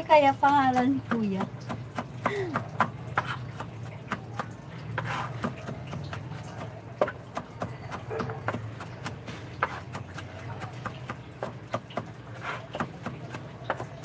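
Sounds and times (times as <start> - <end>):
knife chopping on plastic board: 0.6 - 14.0.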